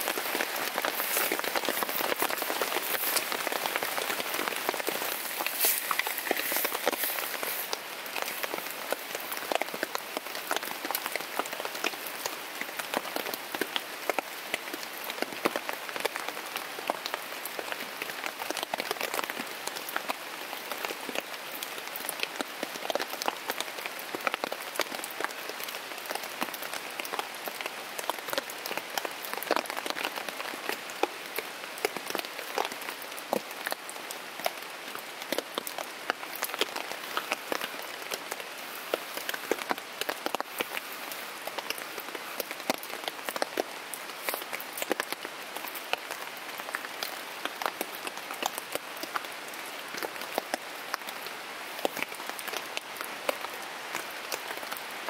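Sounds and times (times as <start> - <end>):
rain pattering on a tent: 0.0 - 55.0.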